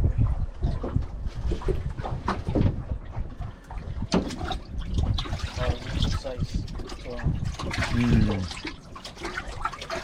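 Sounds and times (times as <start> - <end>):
water lapping around boat: 0.0 - 10.0
wind rumbling on microphone: 0.0 - 10.0.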